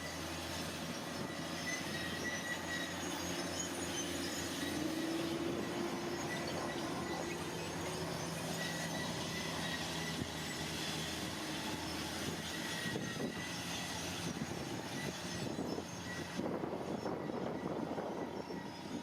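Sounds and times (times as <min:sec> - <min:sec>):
heavy machinery engine running: 0:00.0 - 0:19.0.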